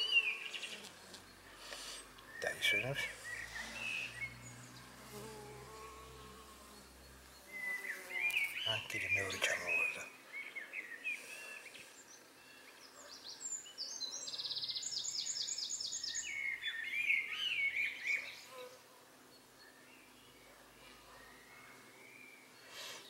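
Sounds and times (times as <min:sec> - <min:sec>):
songbirds singing and trilling: 0:00.0 - 0:18.7, 0:19.3 - 0:23.0.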